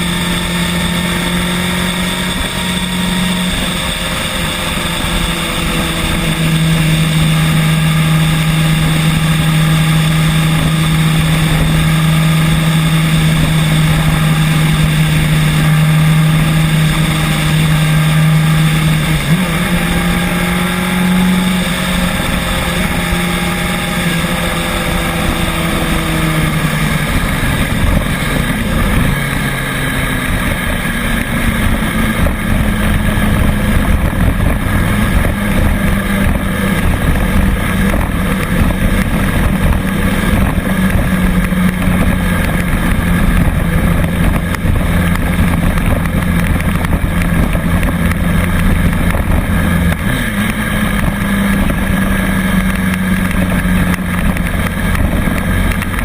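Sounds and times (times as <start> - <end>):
road and wind rumble: 0.0 - 56.0
scooter motor hum: 0.0 - 56.0.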